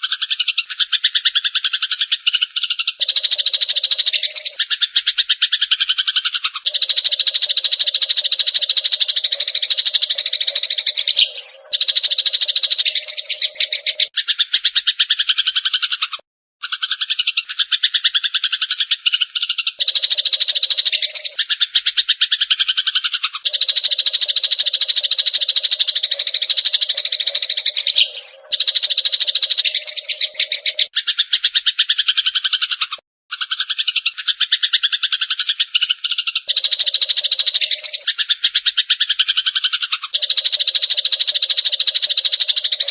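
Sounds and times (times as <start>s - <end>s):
sparrows chattering: 0.0s - 42.9s.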